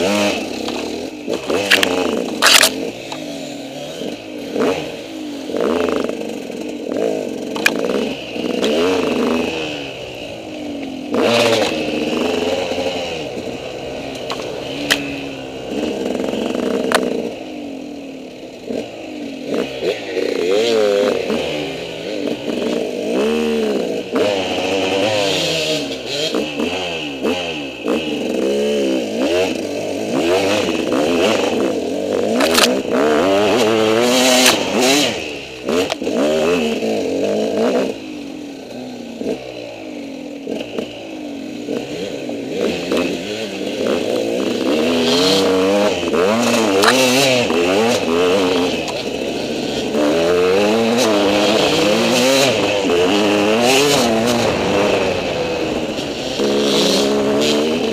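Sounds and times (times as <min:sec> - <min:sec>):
motorbike engine revving: 0:00.0 - 0:57.9.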